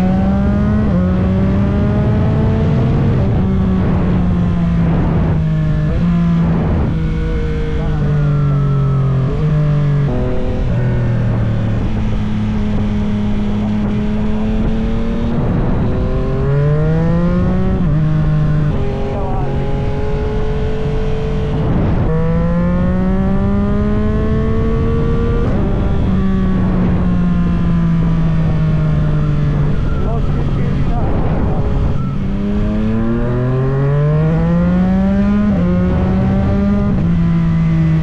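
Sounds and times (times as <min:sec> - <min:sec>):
motorcycle engine revving through gears: 0:00.0 - 0:38.0.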